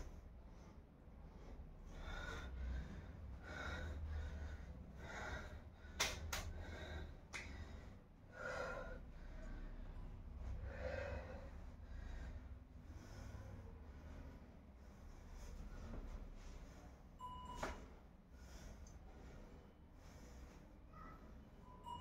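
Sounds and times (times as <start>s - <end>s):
person breathing hard: 0.0s - 17.1s, 18.0s - 21.5s.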